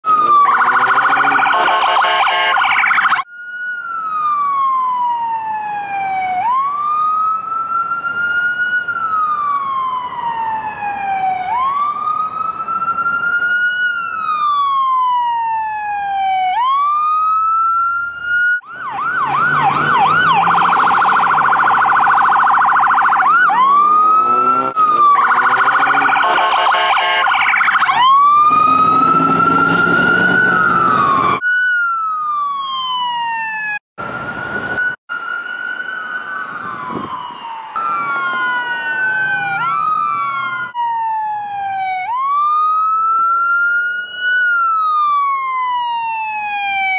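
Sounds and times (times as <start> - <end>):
ambulance siren yelp and wail: 0.0 - 46.9.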